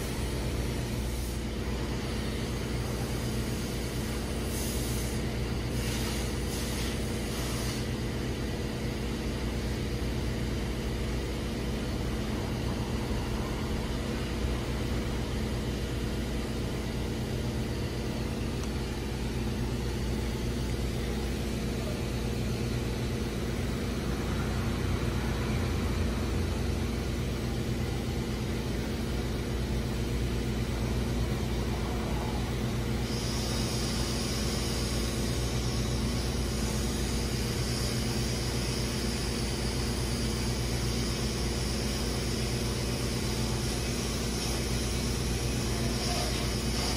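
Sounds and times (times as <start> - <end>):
machine hum: 7.7 - 46.9.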